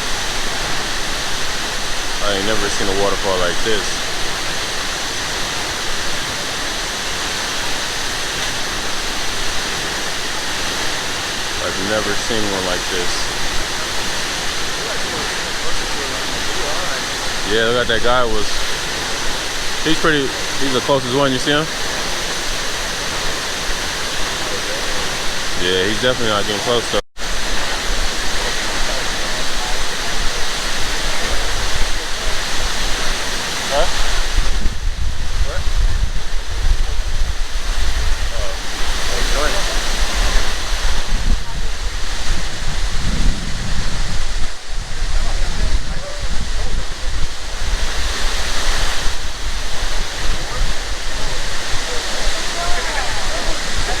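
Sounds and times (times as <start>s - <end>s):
waterfall crashing into pool: 0.0s - 54.0s.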